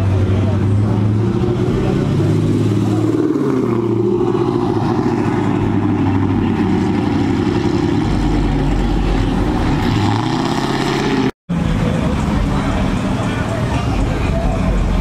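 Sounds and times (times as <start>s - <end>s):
car engine pulling away: 0.0s - 15.0s
deep low engine rumble: 0.0s - 15.0s.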